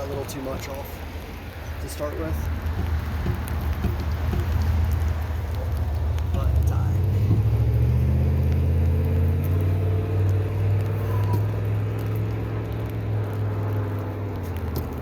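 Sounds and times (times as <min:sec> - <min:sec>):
vehicle engine running: 0:02.4 - 0:15.0.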